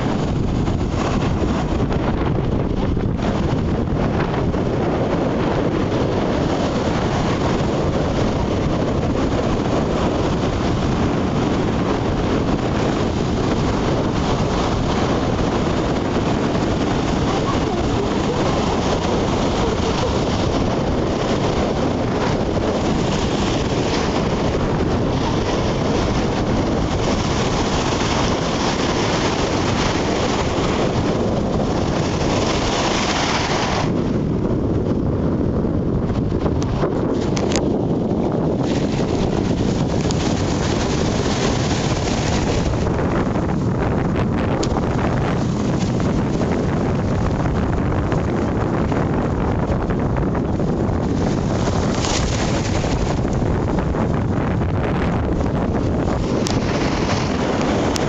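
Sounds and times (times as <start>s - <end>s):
waves breaking on shore: 0.0s - 34.4s, 36.4s - 58.0s
wind rumbling on microphone: 0.0s - 58.0s.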